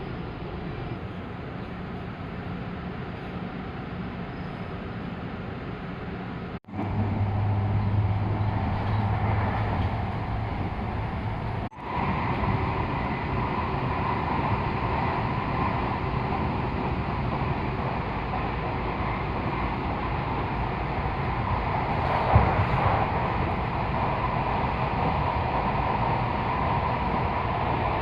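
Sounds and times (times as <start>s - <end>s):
train interior rumble and hiss: 0.0s - 28.0s.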